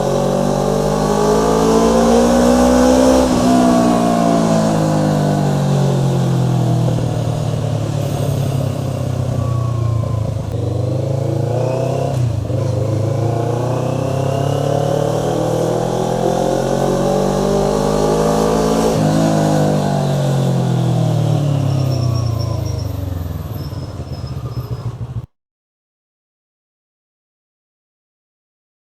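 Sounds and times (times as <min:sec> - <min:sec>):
motorcycle engine accelerating: 0:00.0 - 0:25.3.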